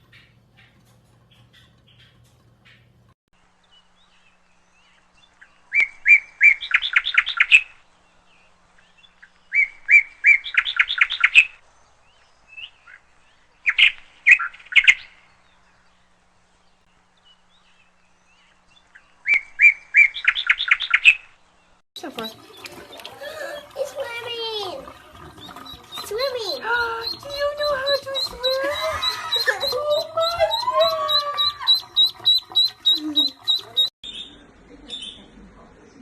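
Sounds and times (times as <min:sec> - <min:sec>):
small bird chirping: 0:00.0 - 0:23.1, 0:25.4 - 0:35.3.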